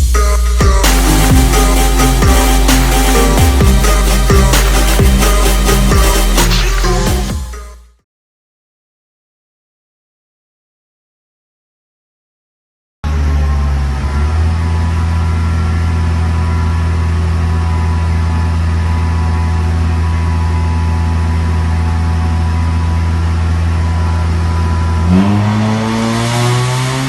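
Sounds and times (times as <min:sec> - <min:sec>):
engine idling and revving: 0:00.0 - 0:07.8, 0:13.0 - 0:27.0.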